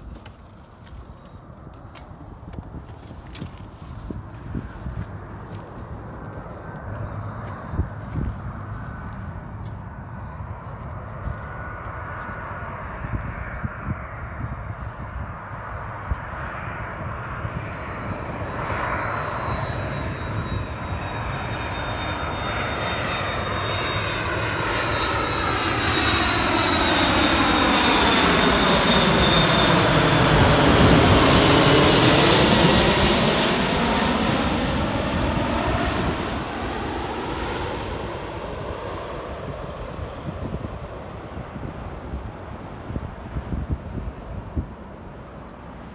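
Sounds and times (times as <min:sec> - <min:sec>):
jet airliner flying overhead: 0:00.0 - 0:45.9
thin high engine whine: 0:00.0 - 0:45.9.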